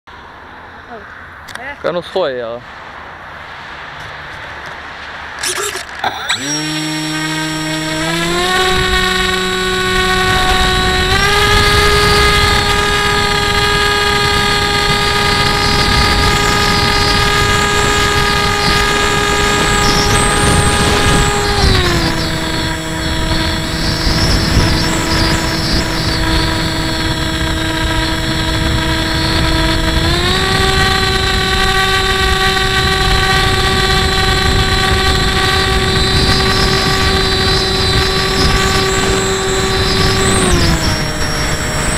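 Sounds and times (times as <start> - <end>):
model plane motor whine: 5.4 - 41.9
wind rush: 6.4 - 41.9.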